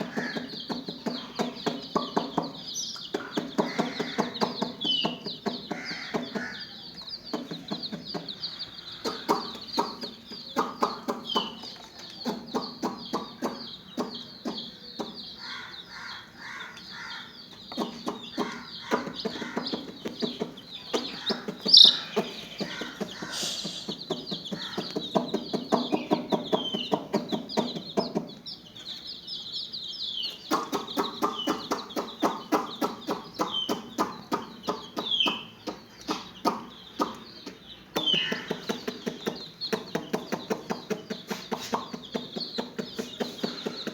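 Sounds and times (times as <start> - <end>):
loud sharp bird call: 0.0 - 28.6, 30.0 - 43.9
chicks peeping: 0.0 - 43.9
hen clucking: 0.0 - 43.9.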